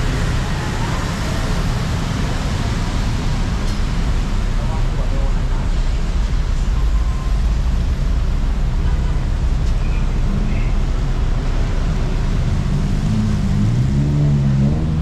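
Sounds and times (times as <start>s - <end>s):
traffic on a wet street: 0.0s - 15.0s
vehicle engine: 0.0s - 15.0s.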